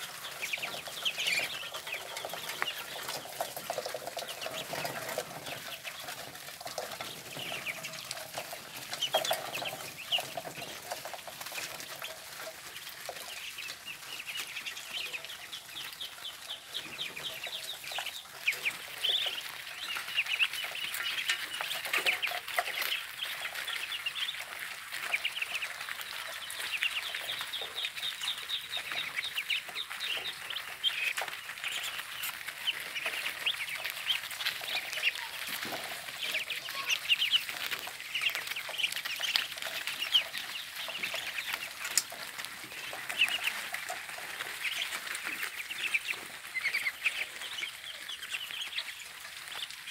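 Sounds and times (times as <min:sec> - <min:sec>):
ducklings peeping: 0:00.0 - 0:49.9.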